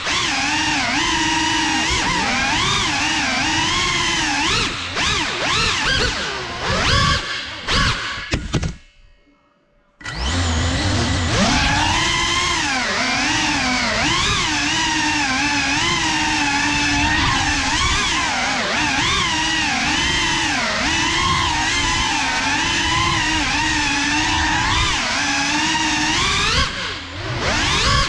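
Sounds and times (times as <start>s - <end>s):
quadcopter motors whining: 0.0s - 8.4s, 10.0s - 28.0s.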